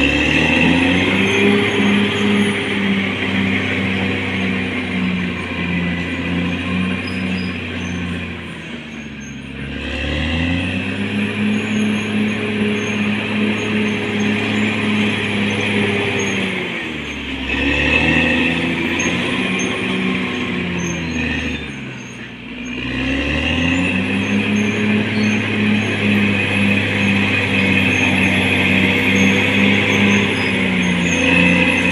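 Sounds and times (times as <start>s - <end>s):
bulldozer diesel engine under load: 0.0s - 31.9s.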